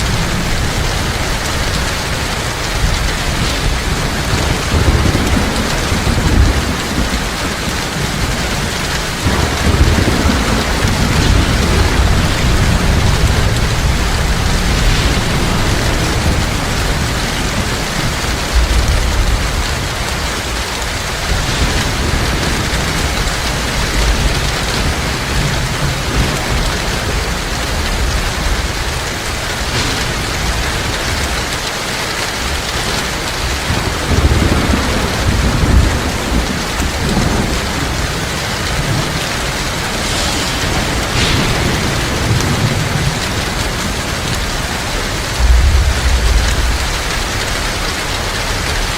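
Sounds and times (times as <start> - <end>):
heavy rain pouring: 0.0 - 48.9
thunder rumbling: 0.0 - 48.9.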